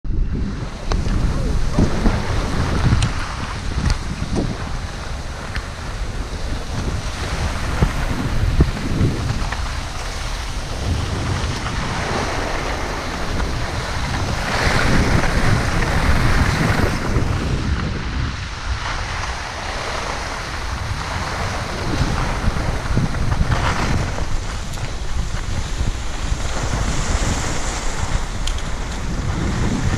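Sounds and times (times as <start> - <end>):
wind buffeting microphone: 0.0 - 29.9
skis sliding on snow: 0.3 - 29.9.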